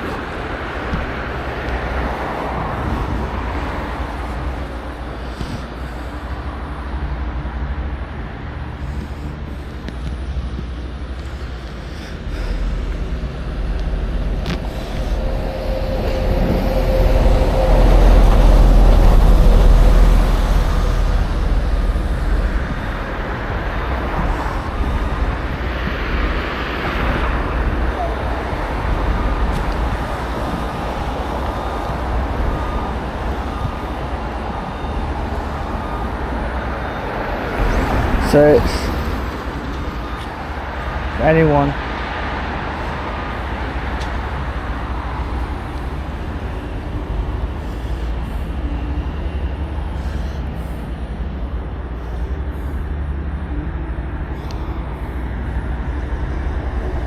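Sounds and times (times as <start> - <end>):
heavy vehicle rumble: 0.0 - 57.0
road traffic passing: 0.0 - 57.0.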